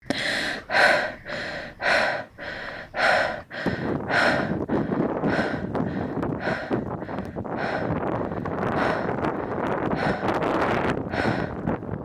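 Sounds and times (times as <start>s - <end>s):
person breathing hard: 0.0s - 12.0s
wind noise on microphone: 0.0s - 12.0s.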